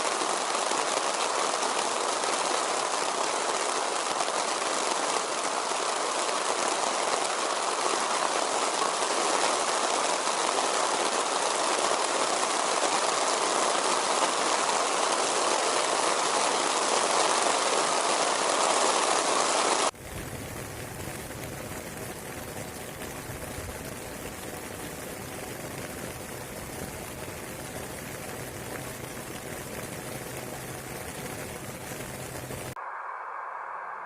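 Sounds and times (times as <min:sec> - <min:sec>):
heavy rain falling: 0:00.0 - 0:32.8.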